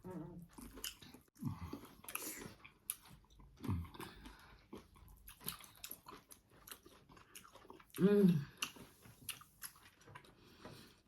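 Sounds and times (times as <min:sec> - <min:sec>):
chewing: 0:00.4 - 0:11.0.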